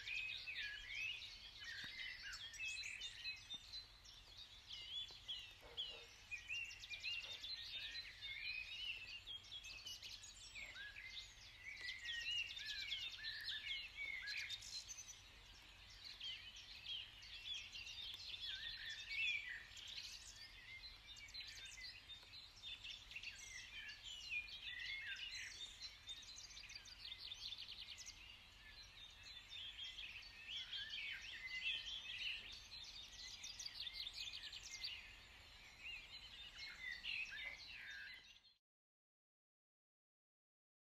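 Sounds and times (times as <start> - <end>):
birds chirping and singing: 0.0 - 38.6.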